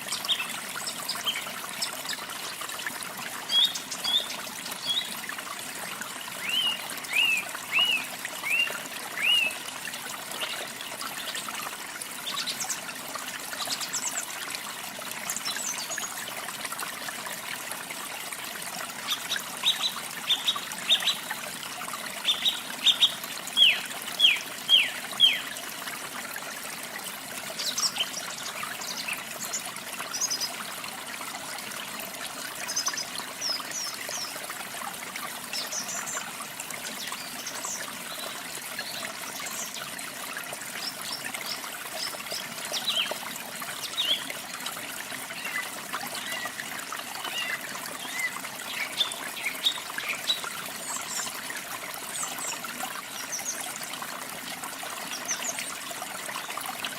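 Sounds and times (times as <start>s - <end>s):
trickle of falling water: 0.0s - 56.9s.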